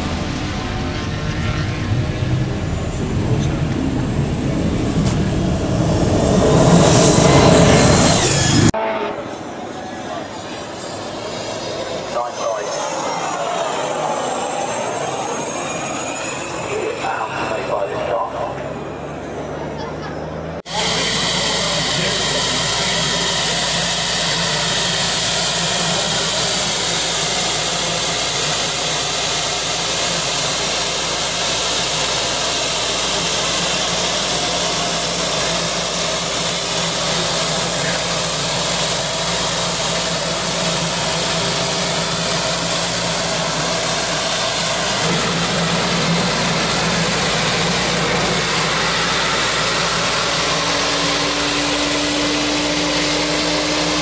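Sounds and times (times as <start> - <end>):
gas turbine engine whine and hiss: 0.0 - 8.8, 9.4 - 18.4, 20.6 - 54.0.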